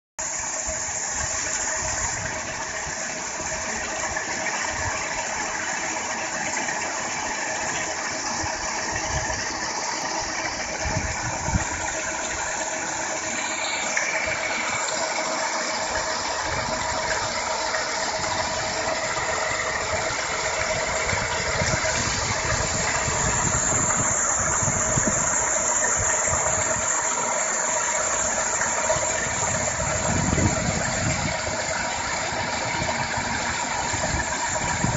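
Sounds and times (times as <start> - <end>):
motor hum: 0.2 - 34.9
paddle wheels splashing water: 0.2 - 34.9.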